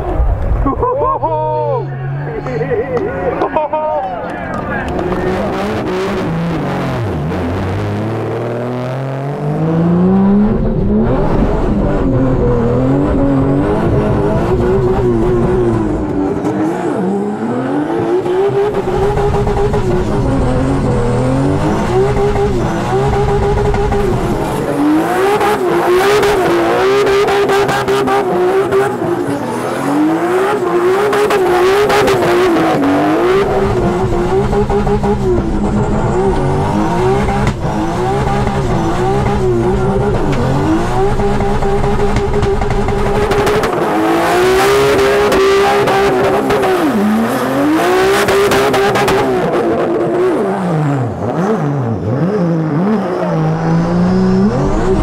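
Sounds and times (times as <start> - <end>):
turbocharged engine revving: 4.4 - 55.0.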